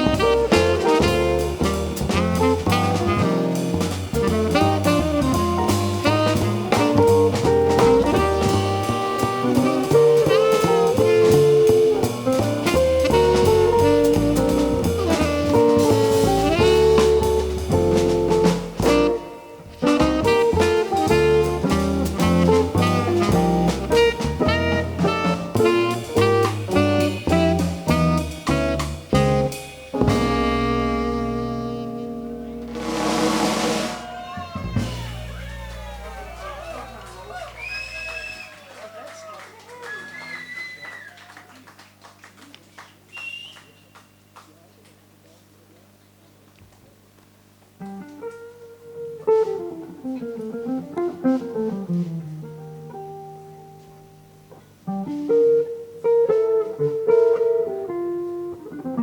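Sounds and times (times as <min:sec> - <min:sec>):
jazz band playing: 0:00.0 - 0:38.2, 0:47.8 - 0:59.0.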